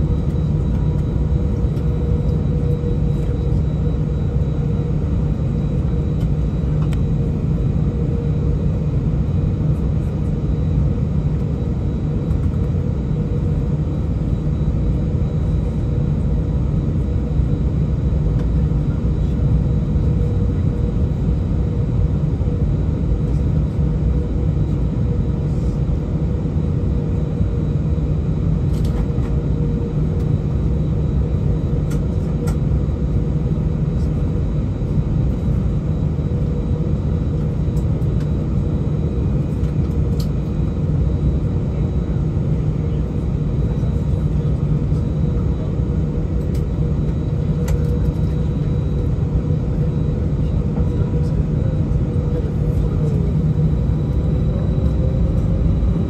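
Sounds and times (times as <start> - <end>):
jet engines low rumble: 0.0 - 56.0.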